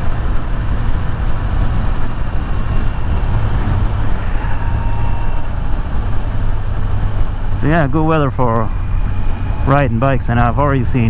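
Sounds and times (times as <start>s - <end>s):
motorcycle engine running: 0.0s - 11.0s
wind noise: 0.0s - 11.0s.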